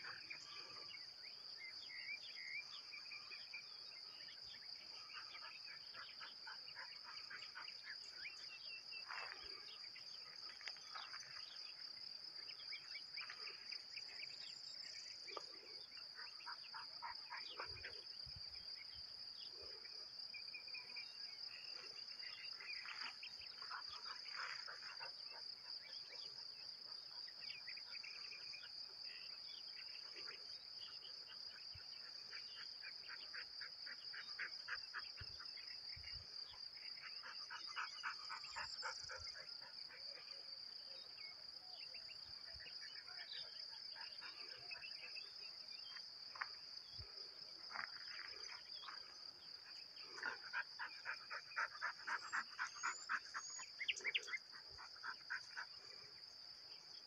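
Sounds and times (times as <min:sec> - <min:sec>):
crickets and cicadas chirping: 0:00.0 - 0:57.0.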